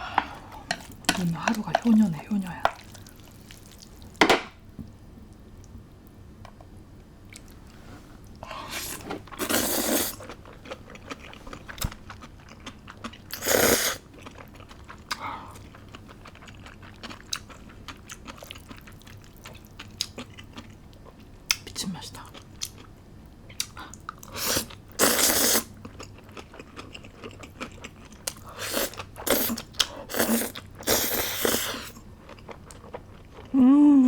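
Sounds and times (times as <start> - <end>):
chewing and crunching food: 0.2 - 4.2, 9.3 - 33.6.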